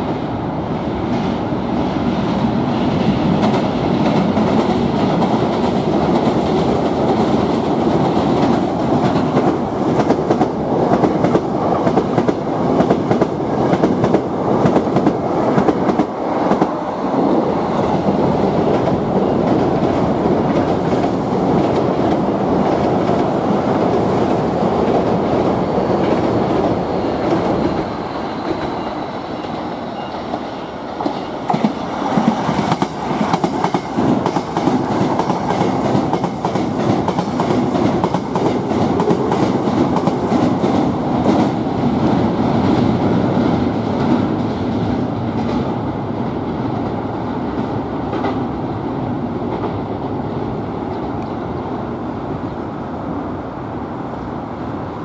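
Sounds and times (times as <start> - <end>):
trains rolling past on track: 0.0 - 55.0.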